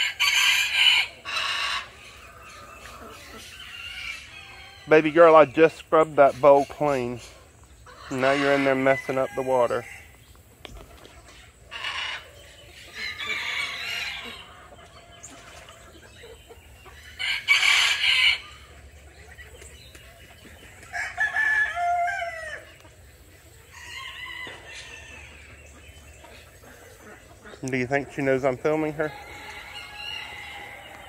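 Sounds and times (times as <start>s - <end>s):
roosters crowing: 0.0s - 10.3s, 11.6s - 19.1s, 20.5s - 27.3s, 27.9s - 31.0s
chickens clucking: 0.0s - 31.0s.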